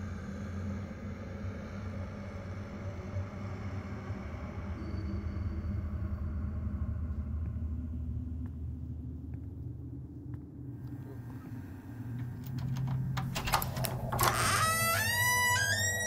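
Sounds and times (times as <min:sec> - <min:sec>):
low ominous drone: 0:00.0 - 0:16.0.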